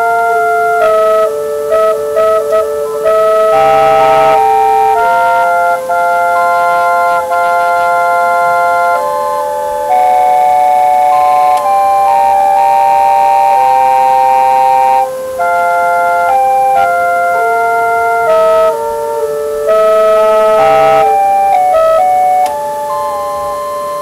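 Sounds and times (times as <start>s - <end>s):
pipe organ playing chords: 0.0s - 24.0s.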